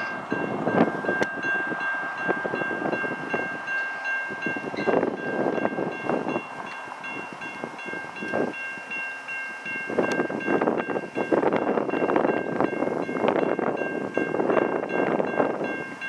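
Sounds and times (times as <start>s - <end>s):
railroad crossing bells ringing: 0.0s - 16.0s.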